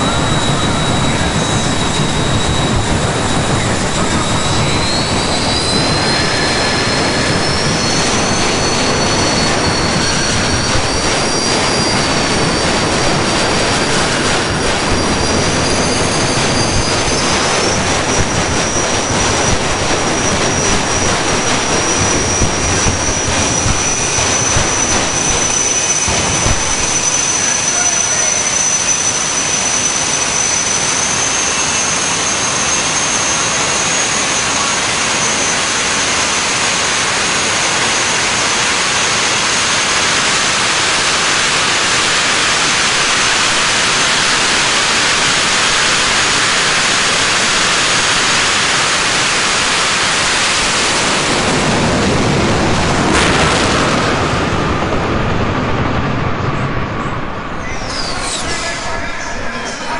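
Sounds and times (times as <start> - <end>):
jet engine roar with high whine: 0.0 - 59.9.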